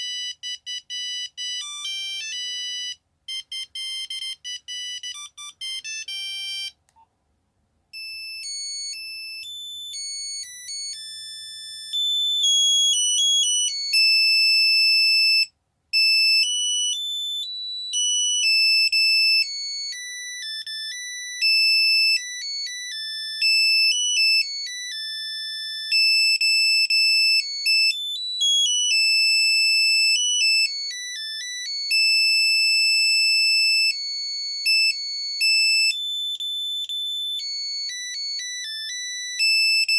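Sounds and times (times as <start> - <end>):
monophonic phone ringtone: 0.0 - 6.8, 8.0 - 39.9.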